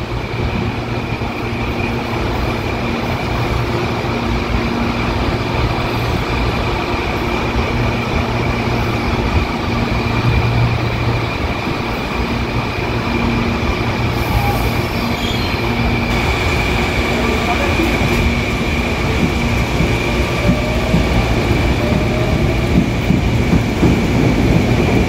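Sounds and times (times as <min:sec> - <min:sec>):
train wheels on rail: 0:00.0 - 0:25.0.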